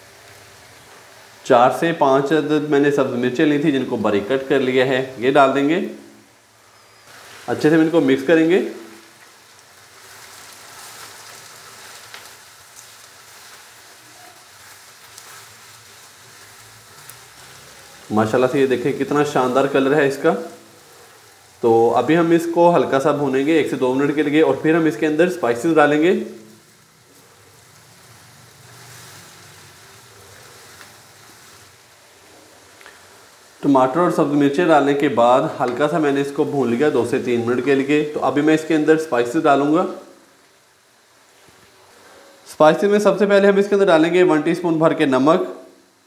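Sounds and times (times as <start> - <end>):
vegetables sizzling in oil: 0.0 - 46.0.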